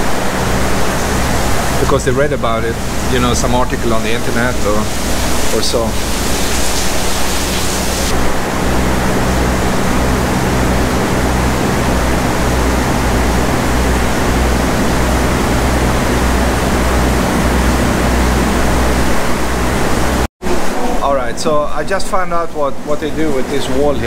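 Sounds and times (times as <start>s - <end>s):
heavy rain pouring: 0.0s - 20.7s
low steady hum: 0.0s - 24.0s.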